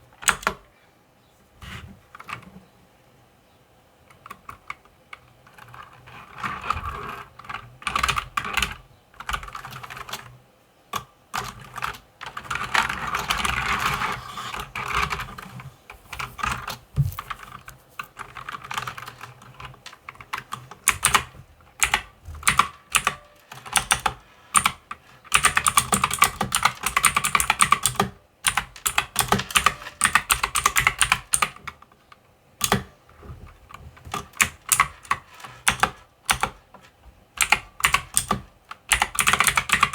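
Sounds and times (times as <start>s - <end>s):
mechanical keyboard typing: 0.2s - 0.6s, 4.2s - 10.4s, 11.0s - 15.6s, 16.2s - 31.8s, 32.6s - 32.9s, 34.1s - 39.9s.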